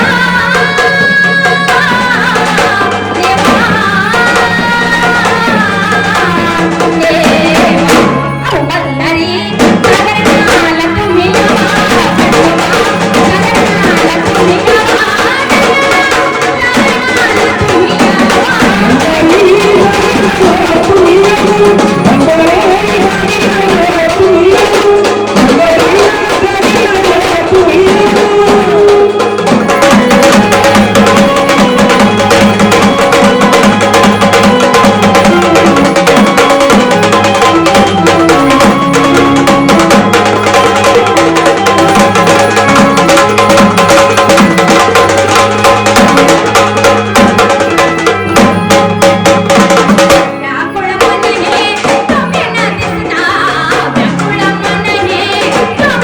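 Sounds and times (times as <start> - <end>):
drum beating a steady rhythm: 0.0 - 56.0
electronic keyboard accompaniment: 0.0 - 56.0
gliding melody line: 0.0 - 56.0.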